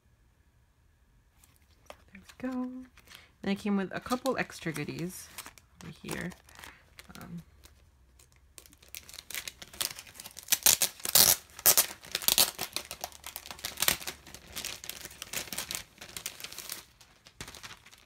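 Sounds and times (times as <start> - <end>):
plastic packaging crinkling: 1.4 - 18.0.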